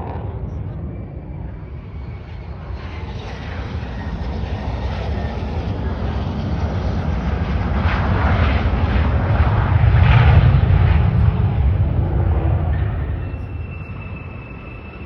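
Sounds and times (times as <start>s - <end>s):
fighter jet engine rushing: 0.0s - 15.0s.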